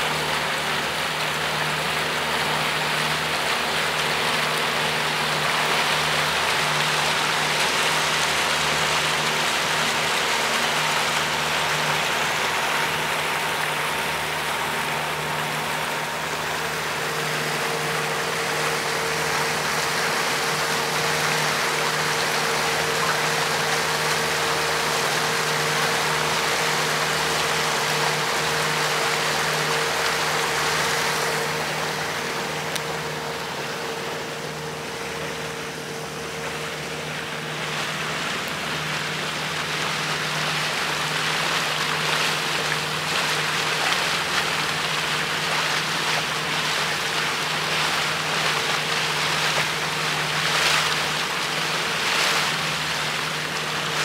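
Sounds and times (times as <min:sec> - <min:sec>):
outboard motor humming: 0:00.0 - 0:54.0
rush of wind and water: 0:00.0 - 0:54.0.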